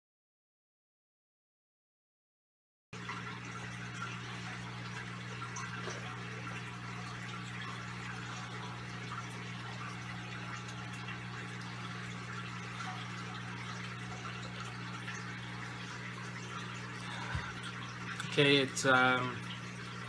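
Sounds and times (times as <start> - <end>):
electrical hum: 3.0 - 20.0.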